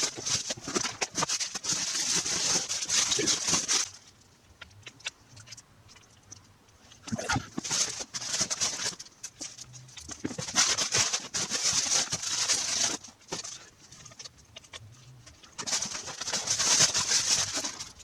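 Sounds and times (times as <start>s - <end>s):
packaging rustling and crinkling: 0.0s - 4.2s, 6.9s - 18.0s.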